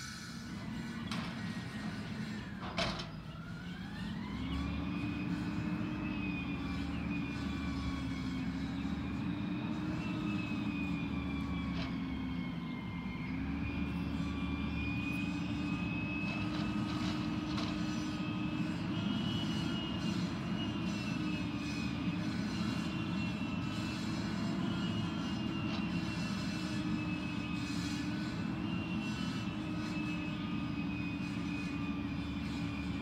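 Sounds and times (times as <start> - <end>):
garbage truck engine running: 0.4 - 31.2.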